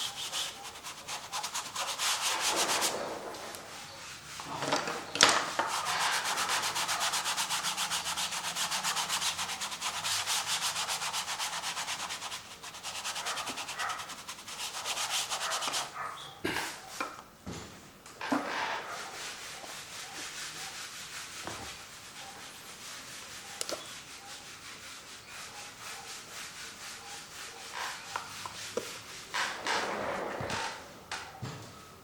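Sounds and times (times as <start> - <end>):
brush scrubbing paint on canvas: 0.0 - 16.1, 18.8 - 29.4.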